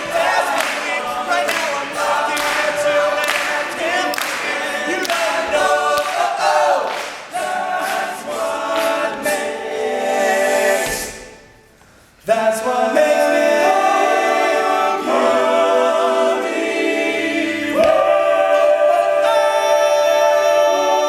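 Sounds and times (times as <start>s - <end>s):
male a cappella group singing: 0.0s - 11.5s, 12.2s - 21.0s.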